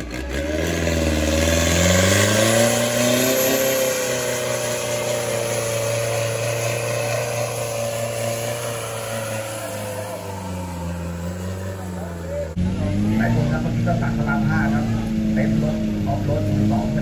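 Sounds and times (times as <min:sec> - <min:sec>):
diesel engine revving hard: 0:00.0 - 0:17.0.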